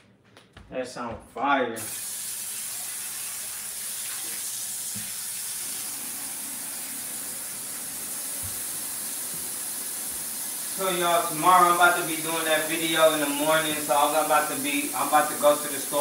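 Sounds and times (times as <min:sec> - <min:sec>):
water running from tap: 0:01.8 - 0:16.0.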